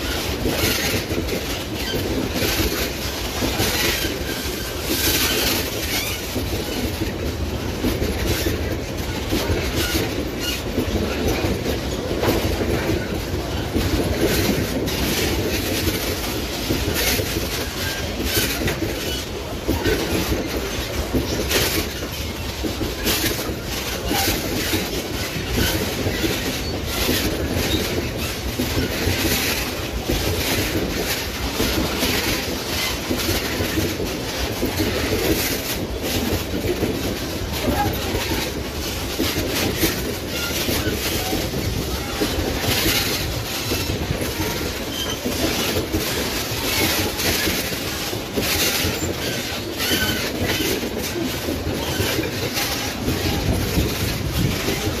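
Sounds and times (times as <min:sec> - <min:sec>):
freight train rolling past: 0:00.0 - 0:55.0
wheels clattering over rail joints: 0:00.0 - 0:55.0.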